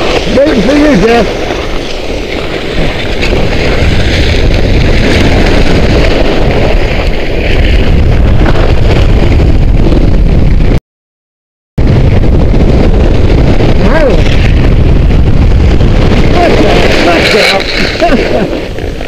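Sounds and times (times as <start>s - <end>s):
wind rush on microphone: 0.0s - 10.8s, 11.8s - 19.0s.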